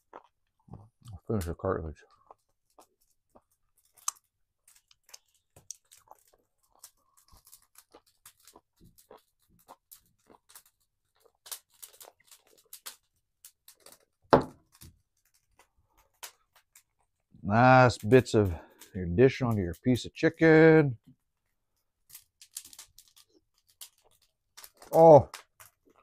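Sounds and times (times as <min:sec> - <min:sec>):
man chewing and crunching: 0:00.0 - 0:17.4, 0:18.0 - 0:19.0, 0:21.0 - 0:26.0.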